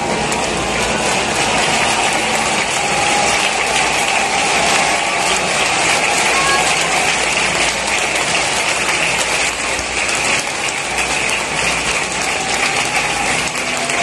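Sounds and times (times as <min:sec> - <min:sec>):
stadium crowd applauding: 0:00.0 - 0:14.0.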